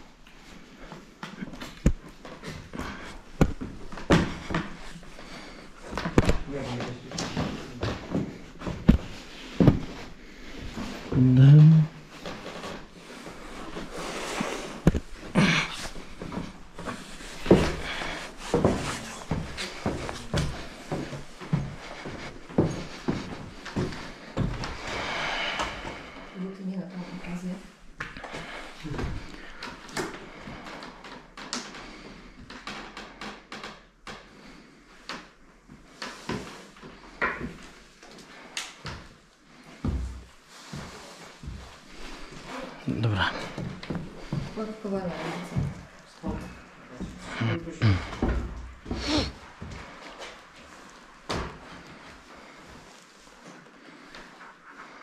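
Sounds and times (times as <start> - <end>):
footsteps on wooden stairs: 0.5 - 26.3, 35.7 - 54.4.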